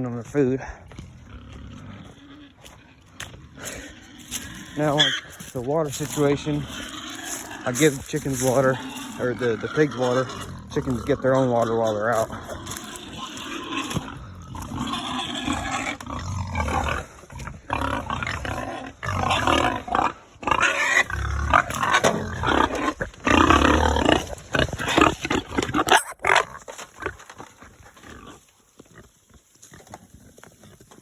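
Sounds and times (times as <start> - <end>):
pigs screaming: 1.2 - 28.4.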